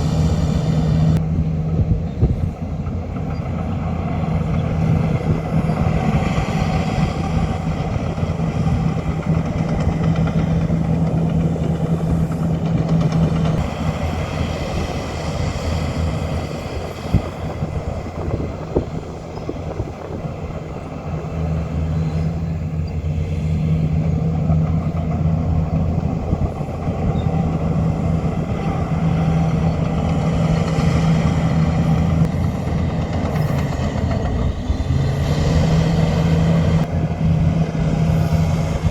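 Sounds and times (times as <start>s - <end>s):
bulldozer engine droning: 0.0s - 38.9s.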